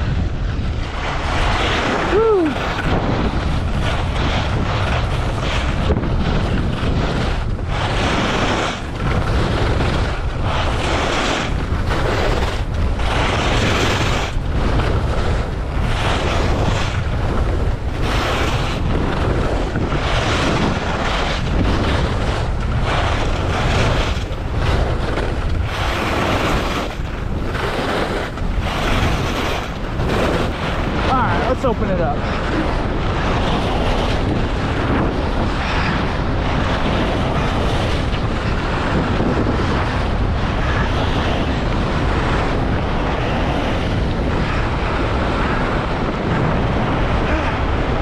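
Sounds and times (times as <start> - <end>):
wind rushing over microphone: 0.0 - 48.0
ski edges scraping snow: 0.8 - 45.5.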